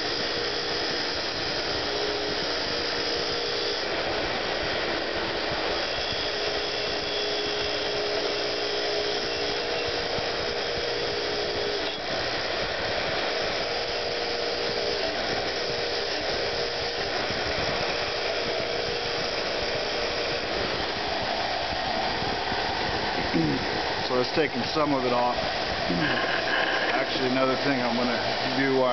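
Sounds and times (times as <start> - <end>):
wire wheel grinding steel: 0.0 - 28.9.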